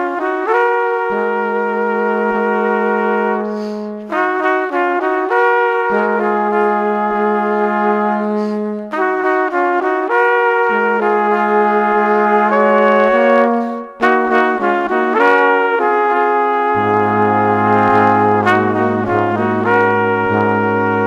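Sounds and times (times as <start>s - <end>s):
instrumental music with held chords: 0.0s - 21.0s.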